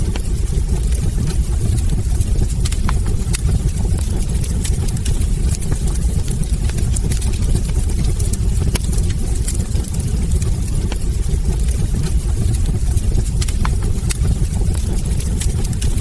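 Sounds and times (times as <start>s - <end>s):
low rumble of fire: 0.0s - 16.0s
wood fire crackling and popping: 0.0s - 16.0s.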